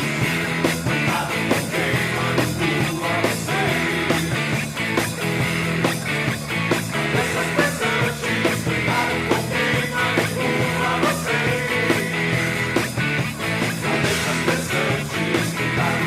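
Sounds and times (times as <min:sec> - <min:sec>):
drum beat: 0:00.0 - 0:16.0
rock band playing: 0:00.0 - 0:16.0.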